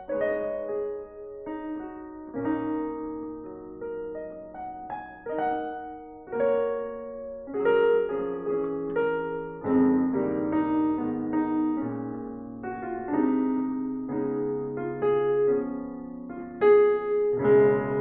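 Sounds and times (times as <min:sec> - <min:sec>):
slow piano chords and melody: 0:00.0 - 0:18.0.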